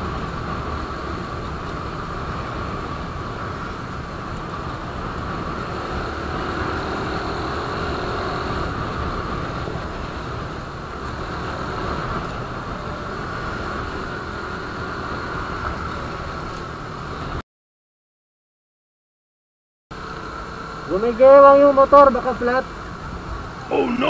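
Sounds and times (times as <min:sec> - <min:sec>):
road noise: 0:00.0 - 0:17.4, 0:19.9 - 0:24.0.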